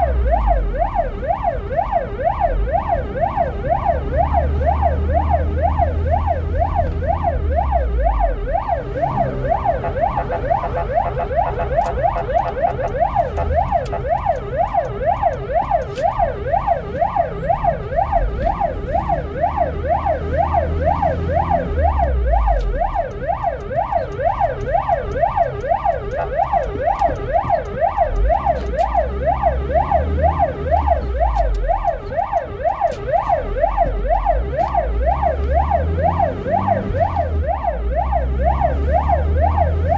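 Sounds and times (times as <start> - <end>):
ambulance siren yelp: 0.0 - 39.9
engine low rumble: 0.0 - 39.9.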